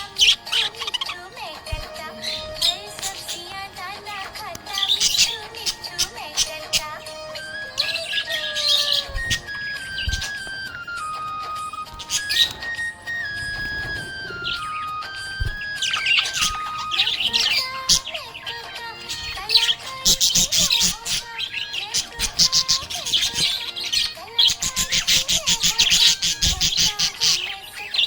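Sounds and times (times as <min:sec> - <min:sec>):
background music: 0:00.0 - 0:28.0
budgie chirp: 0:00.0 - 0:28.0.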